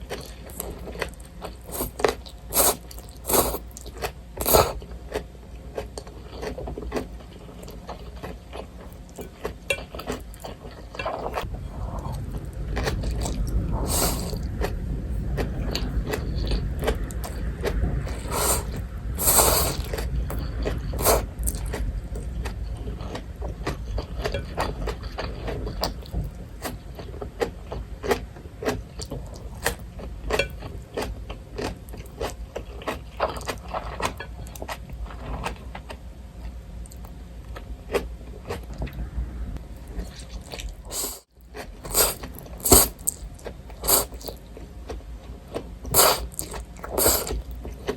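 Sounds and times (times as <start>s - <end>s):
chewing and crunching: 0.0s - 39.0s, 39.7s - 47.9s.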